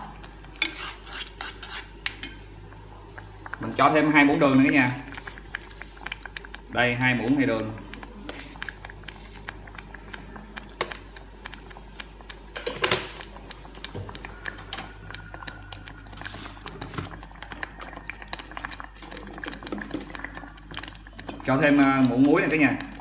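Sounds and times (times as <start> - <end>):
low steady hum: 0.0 - 23.0
sauce bubbles popping: 1.8 - 23.0.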